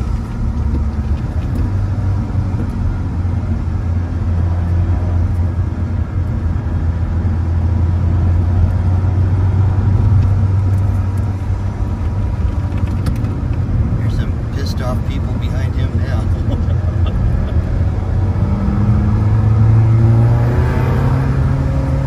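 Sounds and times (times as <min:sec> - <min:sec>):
car engine drone: 0:00.0 - 0:22.0
road noise: 0:00.0 - 0:22.0.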